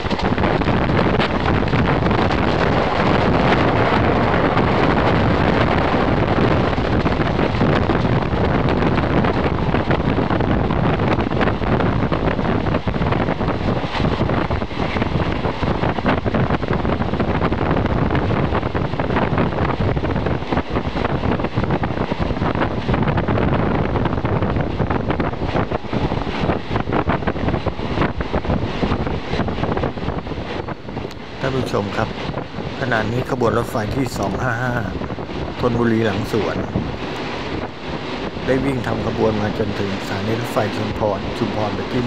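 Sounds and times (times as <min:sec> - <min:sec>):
train carriage rumbling on rails: 0:00.0 - 0:42.0
wind buffeting microphone: 0:00.0 - 0:42.0.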